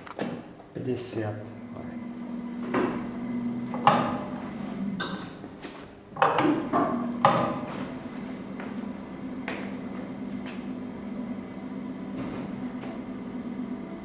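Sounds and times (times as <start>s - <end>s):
machine humming: 0.8s - 14.0s.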